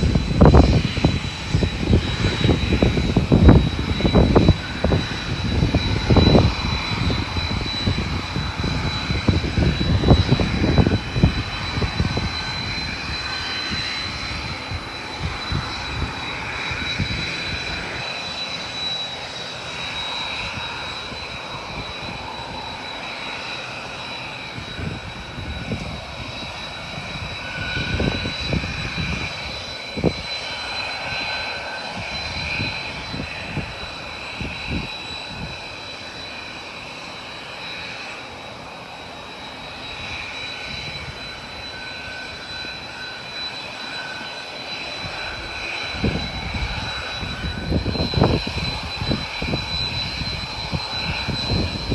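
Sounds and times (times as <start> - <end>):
jet engines whining: 0.0 - 51.9.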